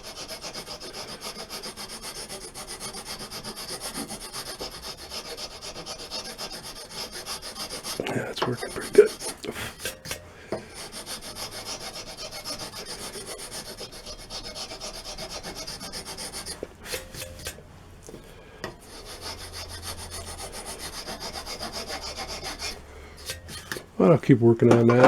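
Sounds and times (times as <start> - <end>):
file rasping on wood: 0.0 - 17.6, 18.7 - 23.9.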